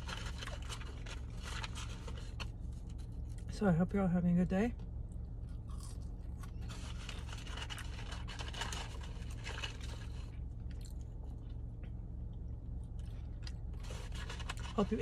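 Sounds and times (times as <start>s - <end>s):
chewing food in mouth: 0.0s - 3.5s, 5.1s - 15.0s
low hum: 0.0s - 15.0s.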